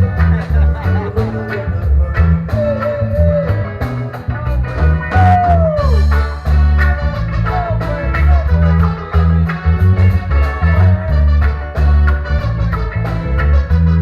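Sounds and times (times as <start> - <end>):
heavy bass line: 0.0 - 14.0
reggae band playing: 0.0 - 14.0
sliding lead melody: 0.0 - 14.0.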